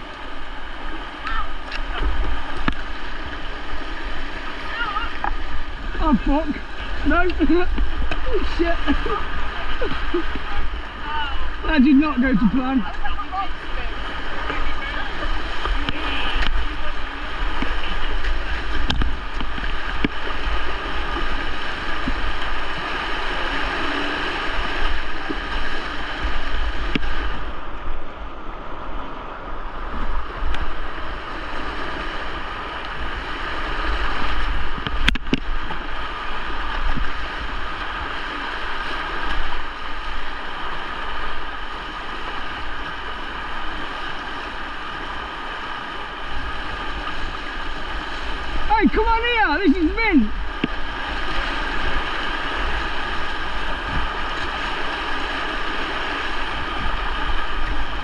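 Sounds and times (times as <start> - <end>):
fast-flowing river water: 0.0 - 58.0
wind rumbling on microphone: 0.0 - 58.0.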